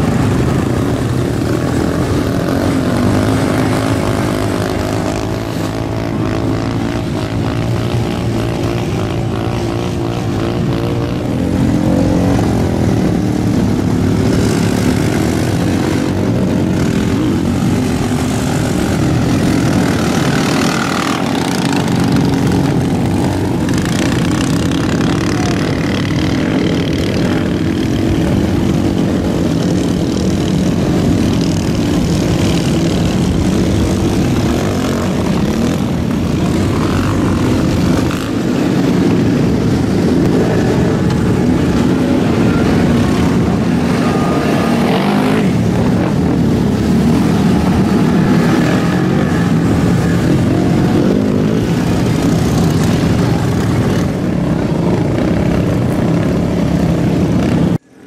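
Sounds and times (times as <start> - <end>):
atv and truck engines running: 0.0 - 58.0.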